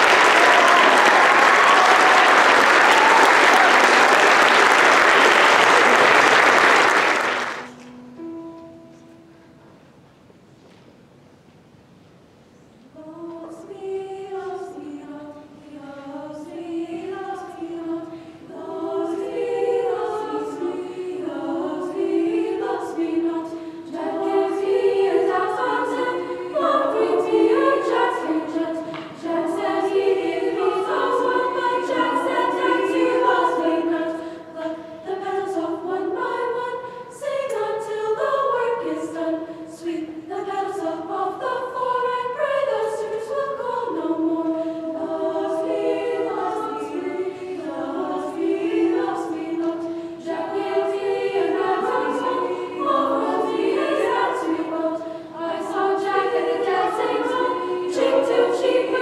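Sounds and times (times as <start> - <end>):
girls' choir singing: 0.0 - 8.4, 12.9 - 59.0.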